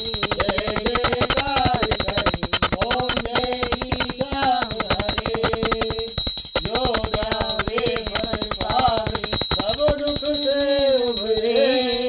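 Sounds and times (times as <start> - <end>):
hand bell ringing rapidly: 0.0 - 12.0
person singing: 0.0 - 12.0.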